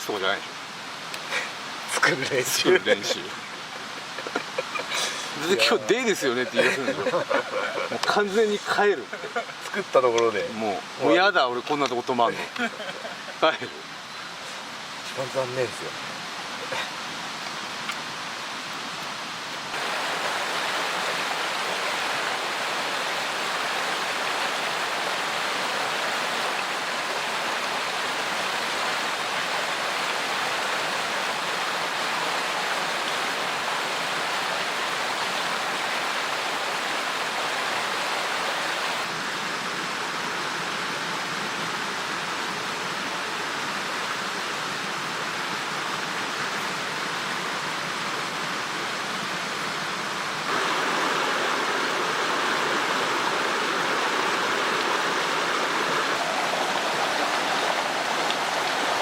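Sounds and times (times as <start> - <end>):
rushing mountain stream: 0.0 - 59.0.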